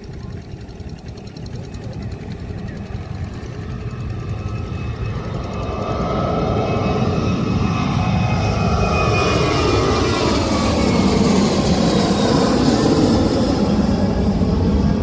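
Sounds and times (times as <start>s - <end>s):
jet airliner engines: 0.0s - 15.0s.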